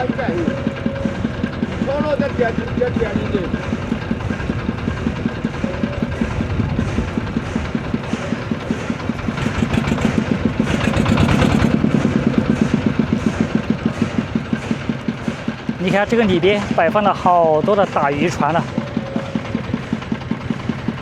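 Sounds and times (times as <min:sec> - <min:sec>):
boat diesel engine pulsing: 0:00.0 - 0:21.0.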